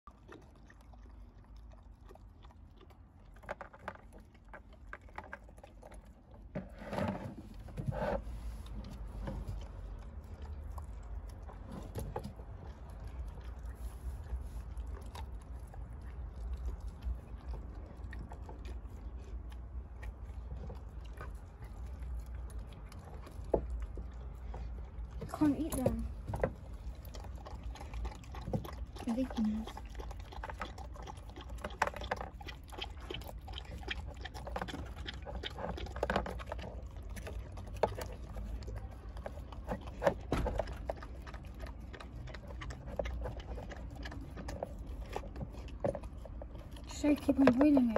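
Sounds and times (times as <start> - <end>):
puppy chewing and crunching: 0.0 - 47.9.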